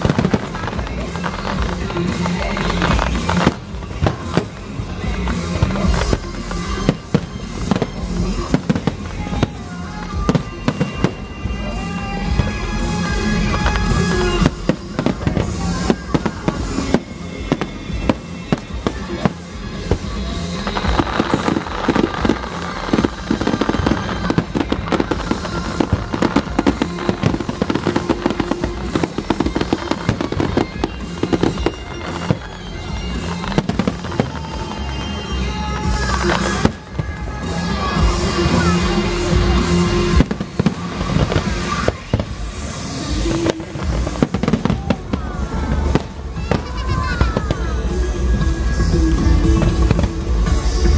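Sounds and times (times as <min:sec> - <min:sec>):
fireworks bursts and popping: 0:00.0 - 0:50.9
music playing: 0:00.0 - 0:50.9.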